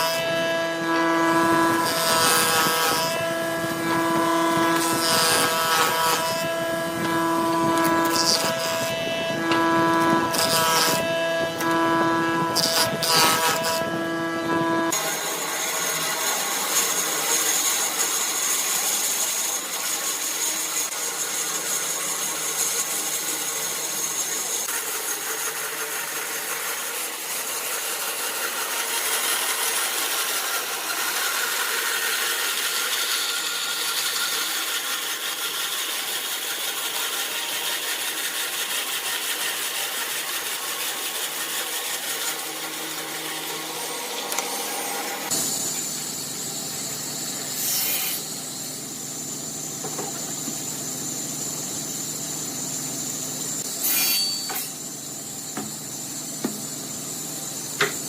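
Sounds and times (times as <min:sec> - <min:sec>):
woodturning lathe running: 0:00.2 - 0:58.0
tool rubbing spinning wood: 0:00.3 - 0:58.0.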